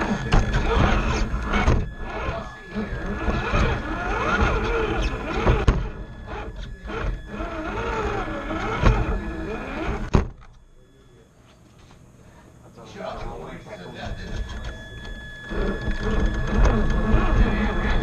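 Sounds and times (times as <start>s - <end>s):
electric motor and gears whining: 0.0s - 10.8s, 13.0s - 18.0s.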